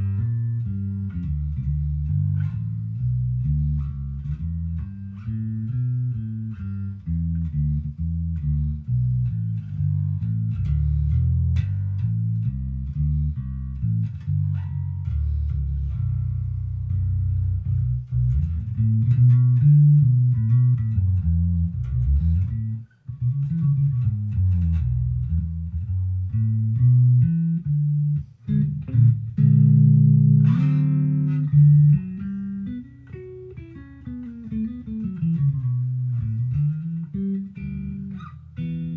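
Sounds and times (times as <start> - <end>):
electric bass playing: 0.0 - 38.9.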